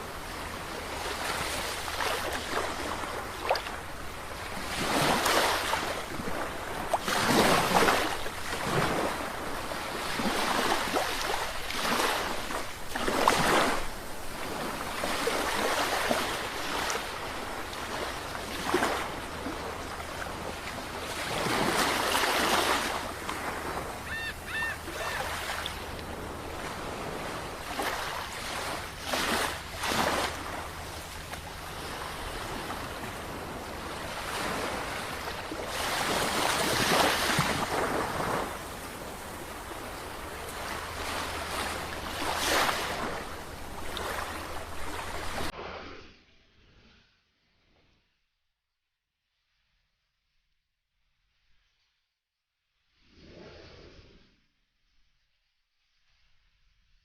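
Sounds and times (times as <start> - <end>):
sea waves breaking on shore: 0.0 - 45.8.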